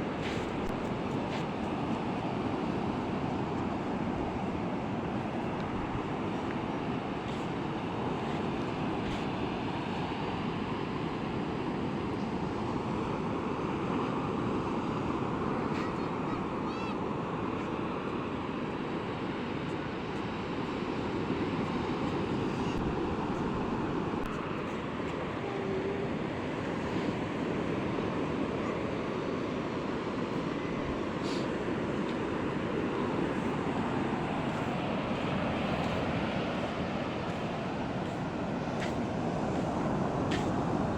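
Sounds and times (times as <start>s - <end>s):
sea surf washing onto beach: 0.0s - 40.9s.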